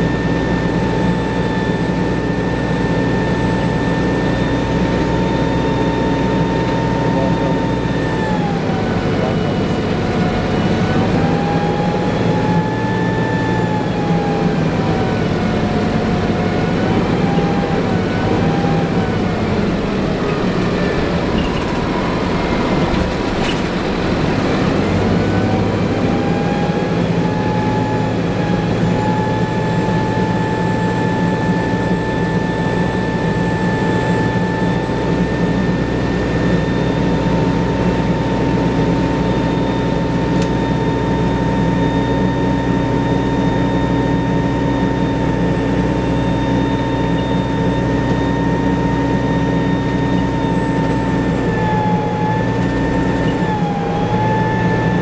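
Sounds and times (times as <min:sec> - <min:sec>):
bus engine drone: 0:00.0 - 0:55.0
transmission whine: 0:00.0 - 0:55.0.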